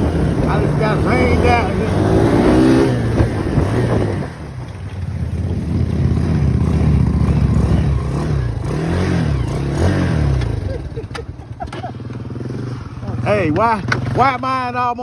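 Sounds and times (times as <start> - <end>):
off-road vehicle engine revving: 0.0 - 14.8.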